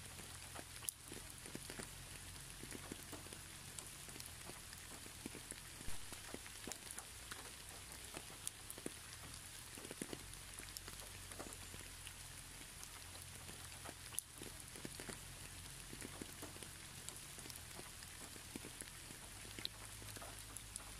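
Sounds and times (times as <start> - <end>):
rain falling on plants: 0.0 - 20.9
raindrops tapping: 0.1 - 20.9.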